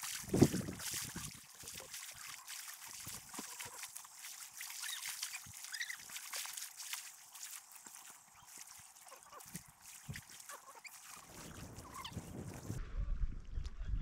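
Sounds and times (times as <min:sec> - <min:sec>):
small drips and clicks: 0:00.0 - 0:12.8
water trickling and lapping: 0:00.0 - 0:12.8.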